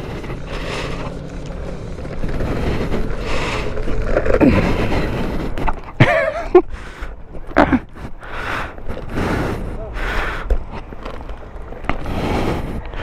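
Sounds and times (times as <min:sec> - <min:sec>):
low rolling rumble: 0:00.0 - 0:13.0.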